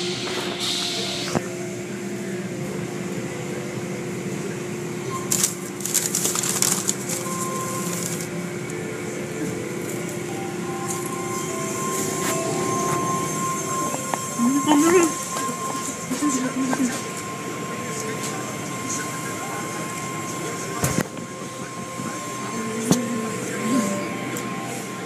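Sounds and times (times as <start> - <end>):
car wash machinery hum: 0.0 - 25.0.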